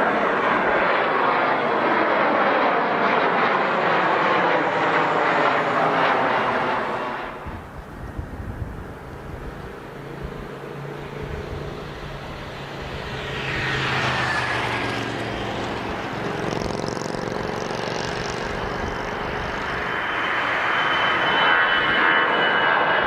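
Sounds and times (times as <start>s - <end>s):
jet airliner engines whining: 0.0s - 23.0s.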